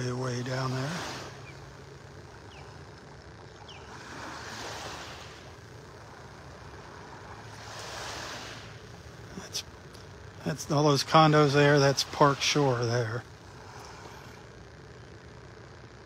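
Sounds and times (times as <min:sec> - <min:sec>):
small waves washing onto sand: 0:00.0 - 0:03.0, 0:03.6 - 0:14.4
faint low hum: 0:00.0 - 0:16.0.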